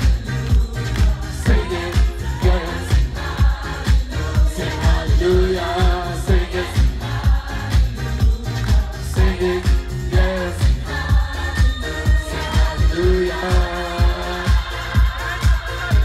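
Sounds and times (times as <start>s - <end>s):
live dance-pop song over pa: 0.0s - 16.0s
steady kick drum: 0.0s - 16.0s
women singing: 0.0s - 16.0s.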